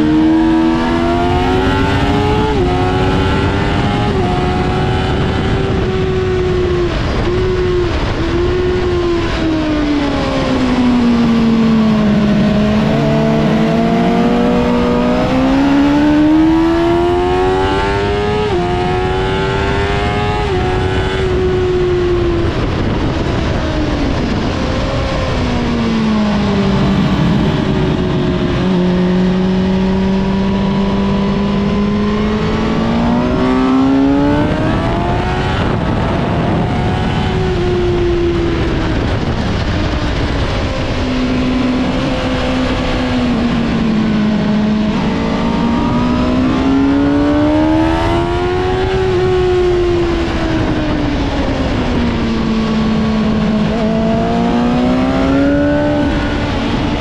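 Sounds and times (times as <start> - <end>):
motorcycle engine revving at speed: 0.0 - 57.0
wind rush: 0.0 - 57.0.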